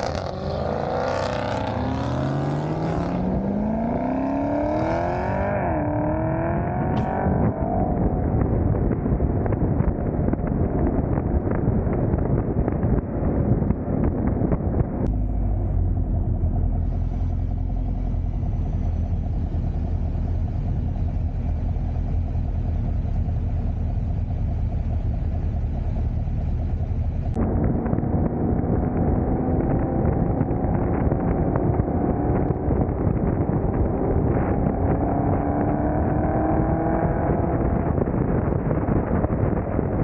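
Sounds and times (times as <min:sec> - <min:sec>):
car cruising with road noise: 0:00.0 - 0:40.0
crackly car engine and exhaust rumble: 0:00.0 - 0:40.0.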